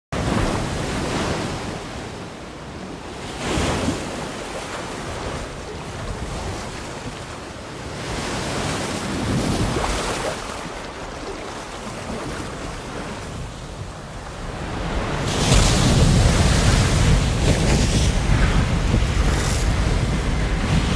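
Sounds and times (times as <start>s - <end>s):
wind: 0.1s - 20.9s
ocean surf breaking: 0.2s - 20.9s.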